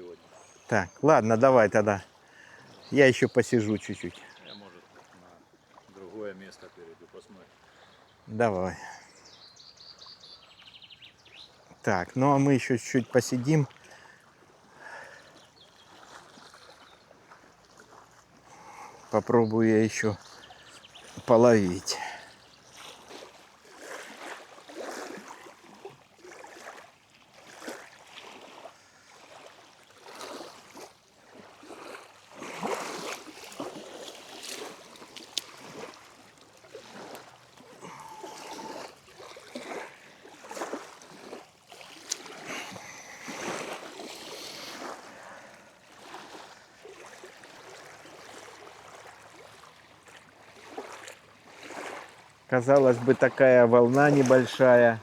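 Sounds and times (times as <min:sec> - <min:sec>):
small waves lapping at shore: 0:00.0 - 0:55.0.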